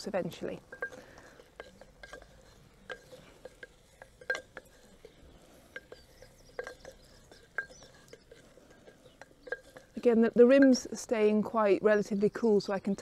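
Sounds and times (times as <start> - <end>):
wooden spoon clinking ceramic pot: 0.0 - 11.8.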